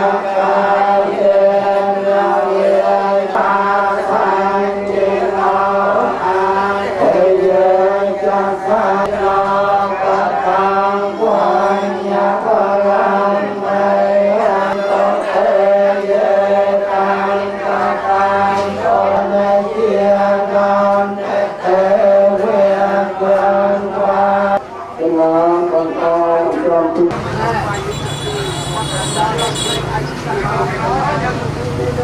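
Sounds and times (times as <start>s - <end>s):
monks chanting in unison: 0.0s - 27.7s.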